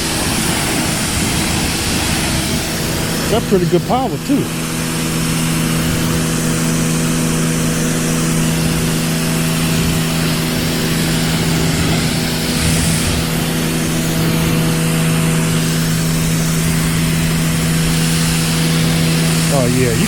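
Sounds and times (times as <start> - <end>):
pressure washer motor hum: 0.0 - 20.0
water jet hissing: 0.0 - 20.0.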